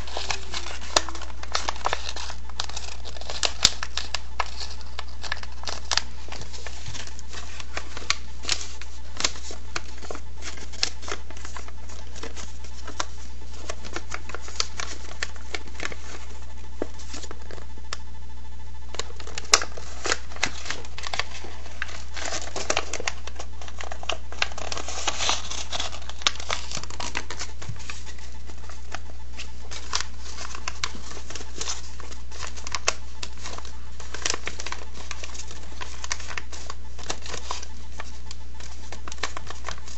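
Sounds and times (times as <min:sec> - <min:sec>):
paper rustling and crinkling: 0:00.0 - 0:17.8, 0:18.9 - 0:39.9
paper creasing clicks: 0:00.0 - 0:18.1, 0:18.8 - 0:39.9.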